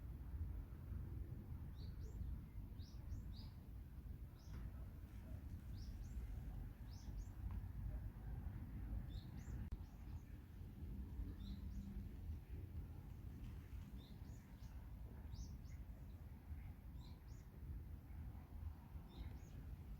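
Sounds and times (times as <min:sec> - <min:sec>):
steady low rumble: 0:00.0 - 0:19.9
small birds chirping: 0:01.7 - 0:19.9.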